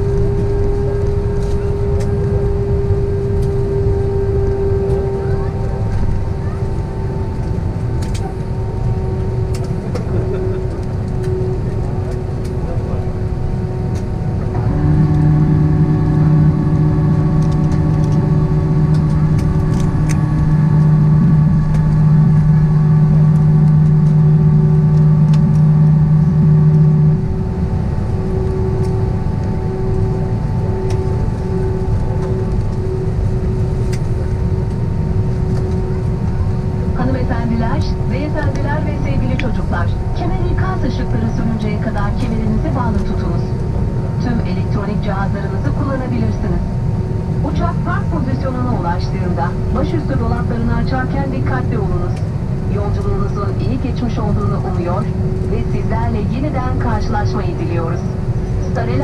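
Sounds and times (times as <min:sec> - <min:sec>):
jet engines and airframe noise: 0:00.0 - 0:59.0
low hum with overtones: 0:00.0 - 0:59.0.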